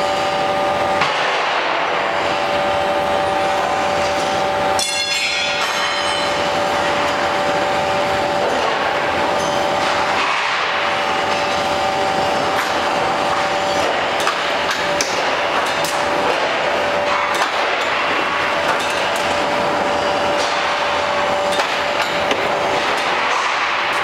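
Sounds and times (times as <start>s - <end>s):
loud machine noise: 0.0s - 24.0s
machine whine: 0.0s - 24.0s.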